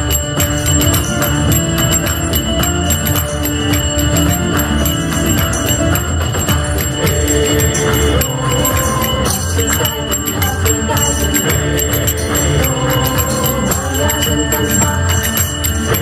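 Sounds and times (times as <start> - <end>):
jingling percussion: 0.0 - 16.0
sustained melody: 0.0 - 16.0.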